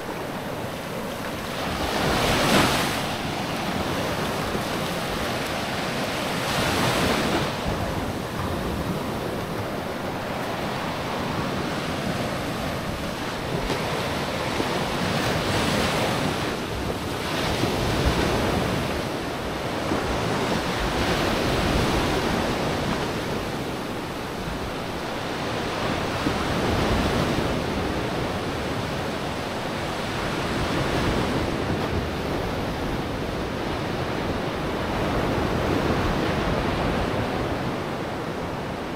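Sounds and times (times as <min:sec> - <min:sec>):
sea waves breaking on beach: 0:00.0 - 0:38.9
wind rumbling on microphone: 0:00.0 - 0:38.9.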